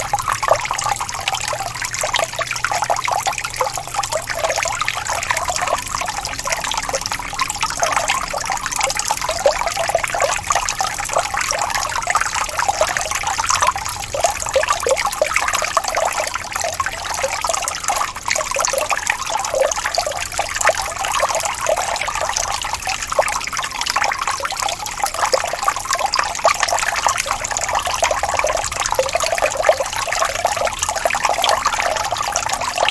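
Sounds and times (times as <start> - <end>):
fountain water splashing: 0.0 - 32.9.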